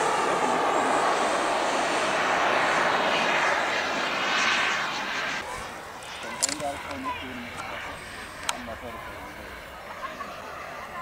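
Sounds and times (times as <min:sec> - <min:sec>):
model jet engine rushing: 0:00.0 - 0:11.0.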